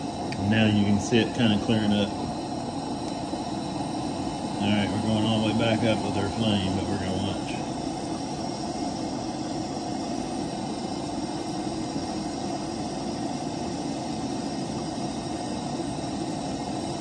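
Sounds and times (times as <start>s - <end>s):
gas burner rushing: 0.0s - 17.0s.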